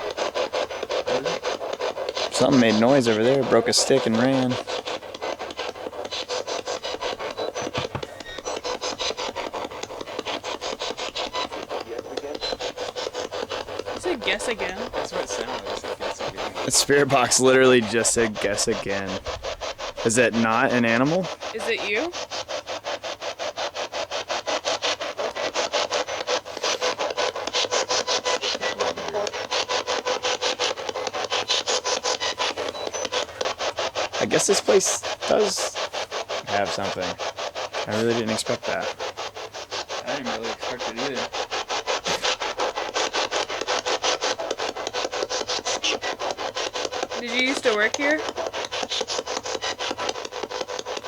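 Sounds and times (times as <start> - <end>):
choppy radio static pulsing: 0.8 - 22.3, 24.9 - 50.8
scraps of broadcast sound: 0.9 - 22.6, 24.6 - 51.0.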